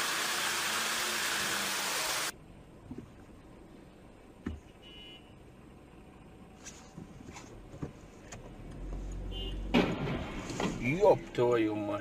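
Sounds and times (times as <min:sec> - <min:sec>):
vehicle engine rumble: 0:02.3 - 0:12.0.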